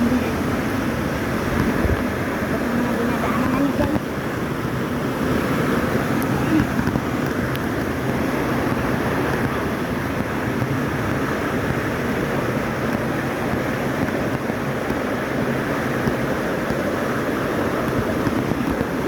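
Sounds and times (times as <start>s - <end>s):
rushing waterfall: 0.0s - 19.0s.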